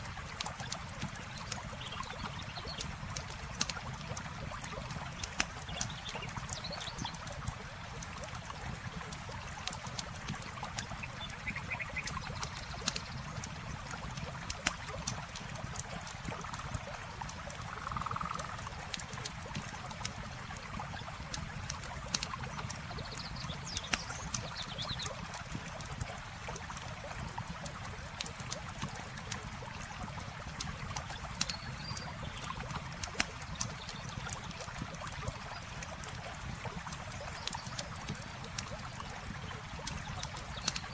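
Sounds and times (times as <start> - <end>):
campfire crackling and popping: 0.0 - 40.9
running water: 0.0 - 40.9.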